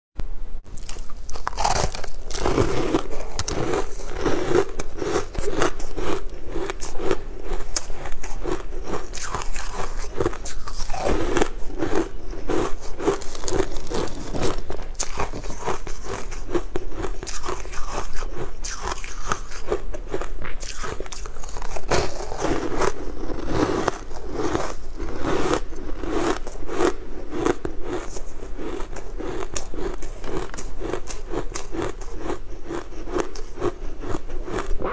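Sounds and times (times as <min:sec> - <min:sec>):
crunchy biting and chewing: 0:00.7 - 0:34.9.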